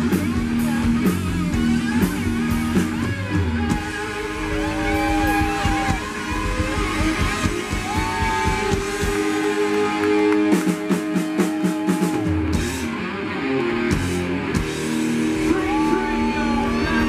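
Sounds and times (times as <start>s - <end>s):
electric guitar bent notes: 0.0s - 17.0s
live rock band playing: 0.0s - 17.0s.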